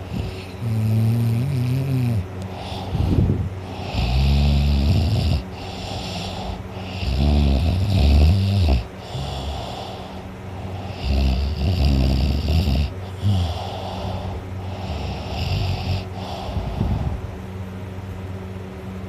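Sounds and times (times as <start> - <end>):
boy snoring loudly: 0.0 - 17.2.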